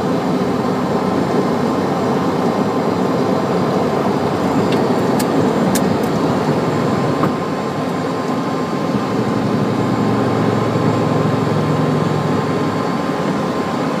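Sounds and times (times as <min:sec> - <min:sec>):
jet engines roaring: 0:00.0 - 0:14.0
thin steady whine: 0:00.0 - 0:14.0.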